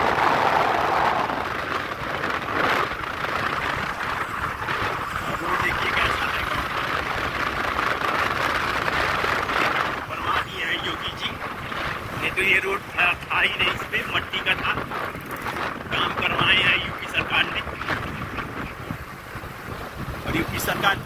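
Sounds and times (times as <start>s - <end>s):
motorcycle engine and wind rush: 0.0s - 21.0s.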